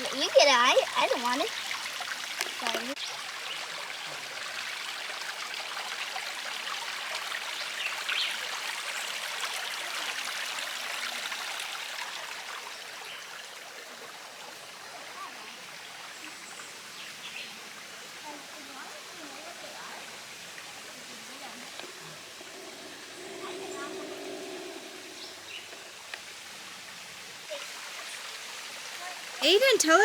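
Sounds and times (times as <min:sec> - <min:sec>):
shallow river water trickling: 0:00.0 - 0:30.0.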